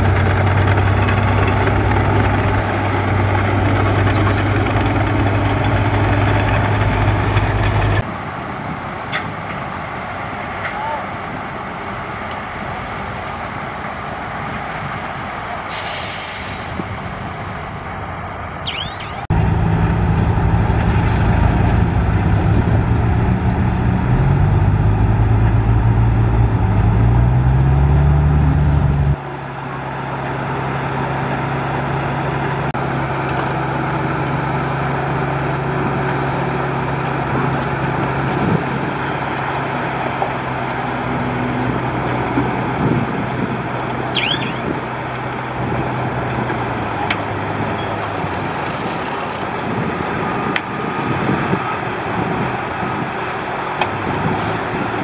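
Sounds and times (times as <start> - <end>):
diesel truck engine revving: 0.0 - 8.6, 19.2 - 55.0.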